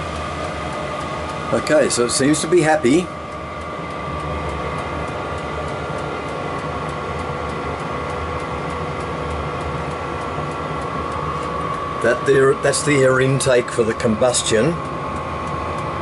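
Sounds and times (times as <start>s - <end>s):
space heater fan whir: 0.0s - 16.0s.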